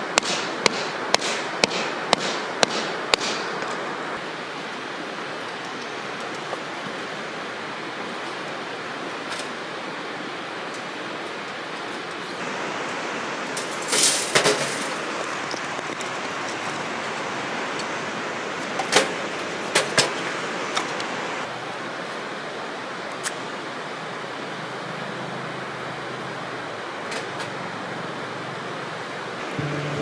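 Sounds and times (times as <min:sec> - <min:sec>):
rushing outdoor background noise: 0:00.0 - 0:30.0.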